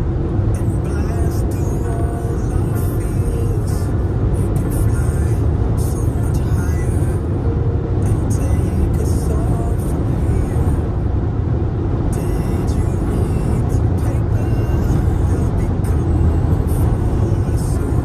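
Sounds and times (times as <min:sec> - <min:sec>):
car cabin road and engine noise: 0:00.0 - 0:18.0.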